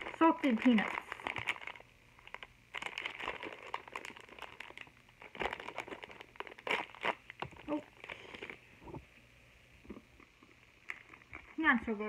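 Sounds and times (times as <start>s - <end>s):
plastic snack packet crinkling: 0.0s - 8.6s, 10.7s - 11.9s.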